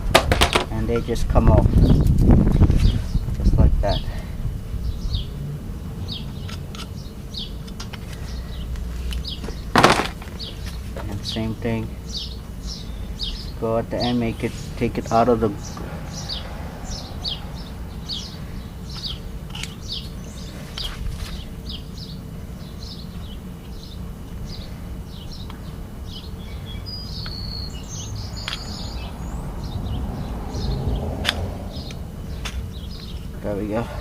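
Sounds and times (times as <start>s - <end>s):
low outdoor rumble: 0.0s - 26.7s, 27.7s - 34.0s
bird chirping: 4.8s - 5.4s, 6.0s - 9.7s, 10.3s - 33.6s.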